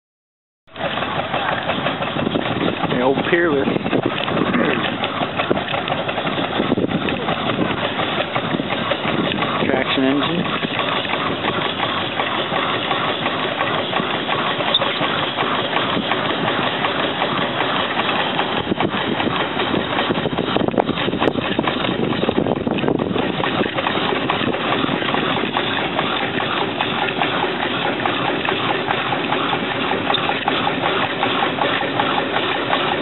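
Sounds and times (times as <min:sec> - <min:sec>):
steam traction engine running: 0:00.7 - 0:33.0.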